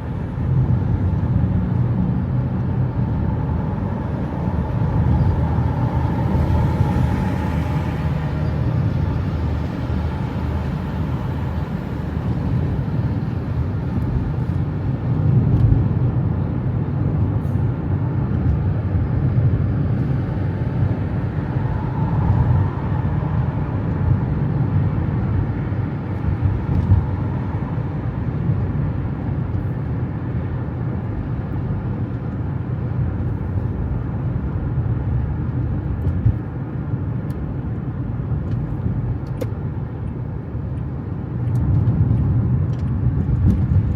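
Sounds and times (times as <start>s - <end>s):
road vehicle rumble: 0.0s - 43.9s.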